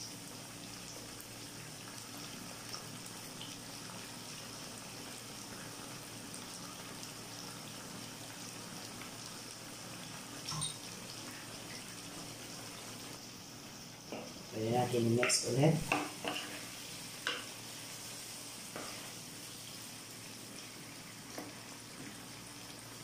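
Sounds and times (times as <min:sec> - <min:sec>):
chicken simmering in a pan: 0:00.0 - 0:23.0.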